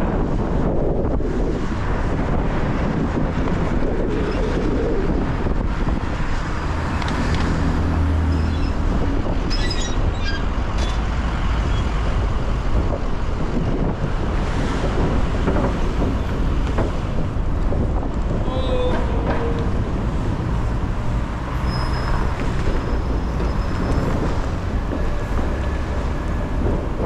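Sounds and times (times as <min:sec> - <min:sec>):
city street traffic: 0:00.0 - 0:27.0
vehicle engine low hum: 0:00.0 - 0:27.0
wind on microphone: 0:00.0 - 0:27.0.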